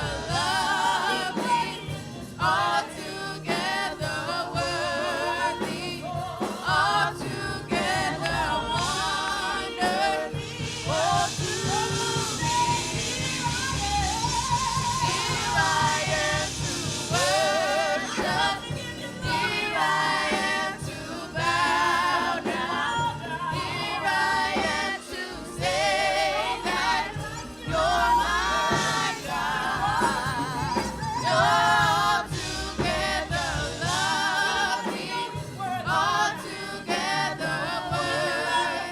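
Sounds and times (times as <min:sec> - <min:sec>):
gospel singers with vibrato: 0:00.0 - 0:38.9
instrumental backing: 0:00.0 - 0:38.9.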